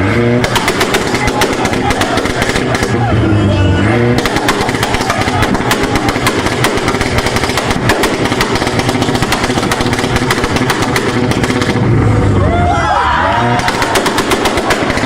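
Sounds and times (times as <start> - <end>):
car engine on launch limiter: 0.0 - 15.0
exhaust pops and bangs: 0.3 - 3.1, 4.1 - 12.0, 13.6 - 15.0.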